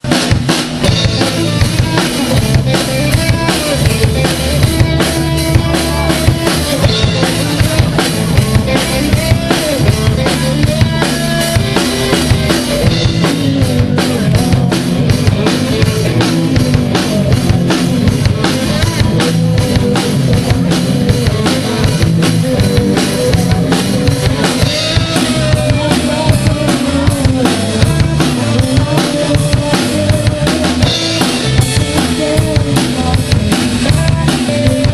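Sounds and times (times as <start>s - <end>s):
drum kit beat: 0.0s - 34.9s
low bass notes: 0.0s - 34.9s.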